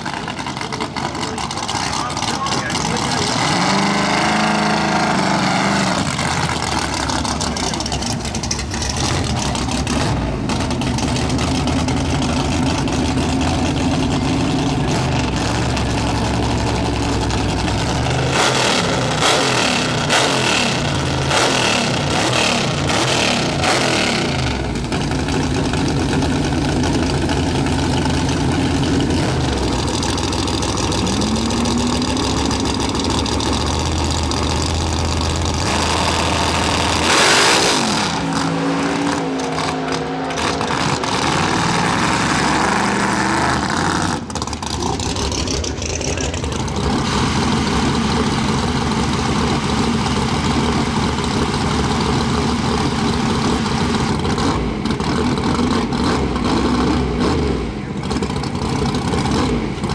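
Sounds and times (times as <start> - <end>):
racing car engines idling and revving: 0.0 - 59.9.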